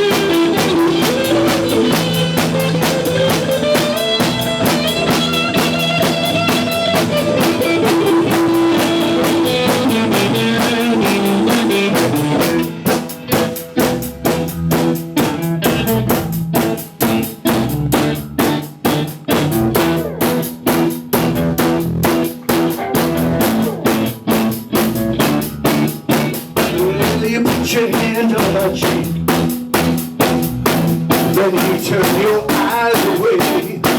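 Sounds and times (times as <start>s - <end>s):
held electric guitar notes: 0.0s - 27.6s
rock band playing: 0.0s - 33.9s.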